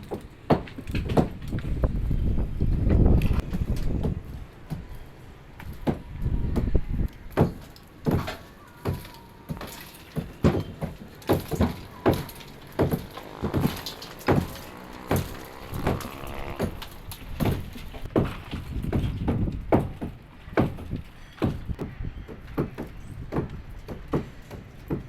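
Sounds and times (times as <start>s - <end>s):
knocks and thuds on concrete slabs: 0.0s - 5.0s, 5.6s - 25.0s.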